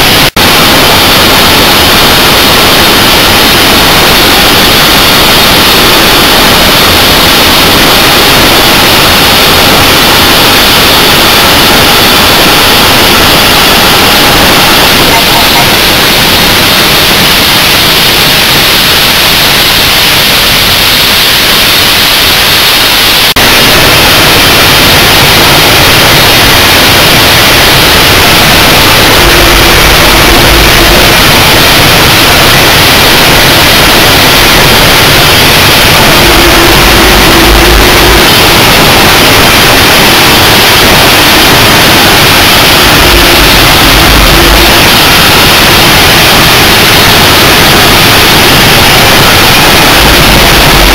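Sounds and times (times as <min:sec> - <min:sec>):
steam locomotive hissing: 0:00.0 - 0:34.0, 0:34.6 - 0:42.2.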